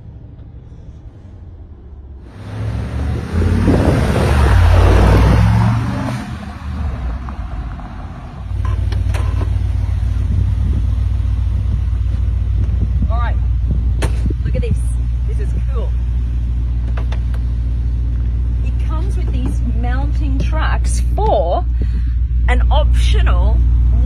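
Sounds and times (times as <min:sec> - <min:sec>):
low engine drone: 0:00.0 - 0:24.0
road noise: 0:00.0 - 0:24.0
truck engine driving: 0:00.0 - 0:24.0.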